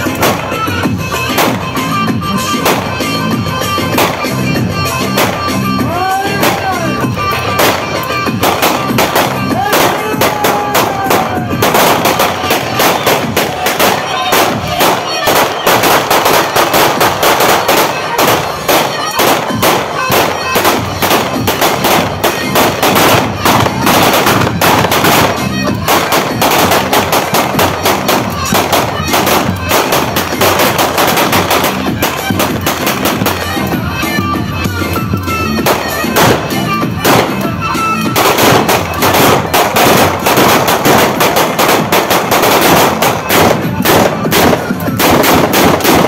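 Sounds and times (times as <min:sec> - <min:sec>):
rapid gunfire: 0:00.0 - 0:05.6, 0:06.4 - 0:33.8, 0:35.6 - 0:46.0
loud dance music: 0:00.0 - 0:46.0.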